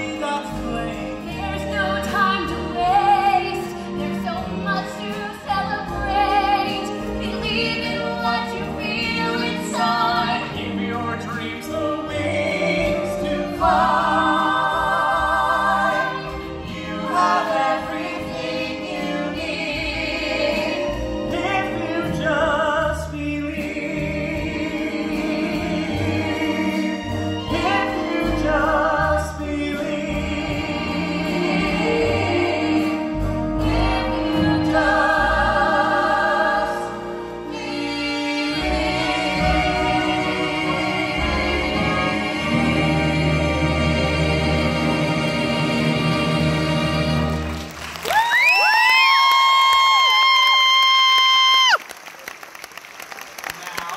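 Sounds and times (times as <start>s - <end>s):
several voices singing together: 0.0s - 47.5s
instrumental accompaniment: 0.0s - 47.9s.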